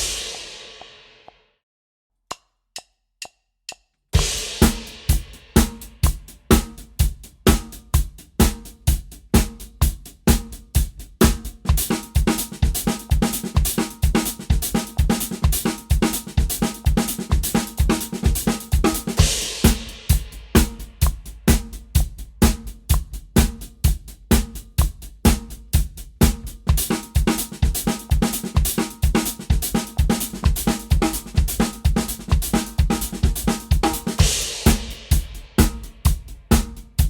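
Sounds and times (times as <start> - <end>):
drum kit playing fast groove: 0.0 - 1.2, 4.2 - 37.0.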